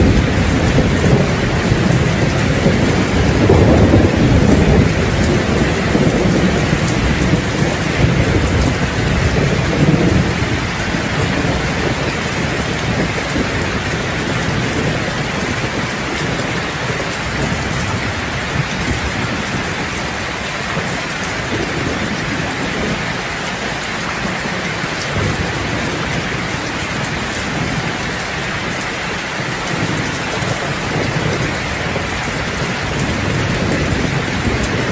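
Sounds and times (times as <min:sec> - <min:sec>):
heavy rain on a roof: 0:00.0 - 0:34.9
low rolling thunder: 0:00.0 - 0:34.9.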